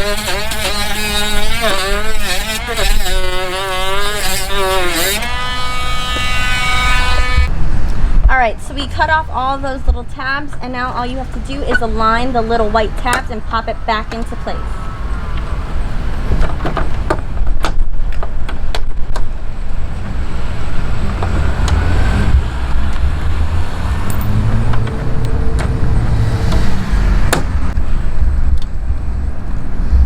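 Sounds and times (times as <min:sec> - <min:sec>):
low outdoor rumble: 0:04.7 - 0:18.3, 0:19.1 - 0:30.0.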